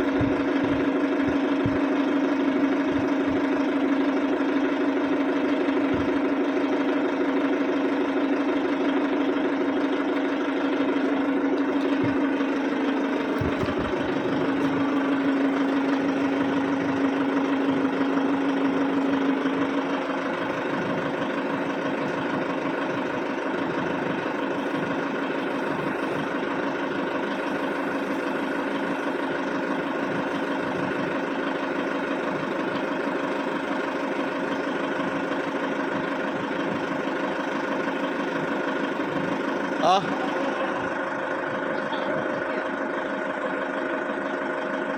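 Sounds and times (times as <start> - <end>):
engine humming: 0.0 - 44.9.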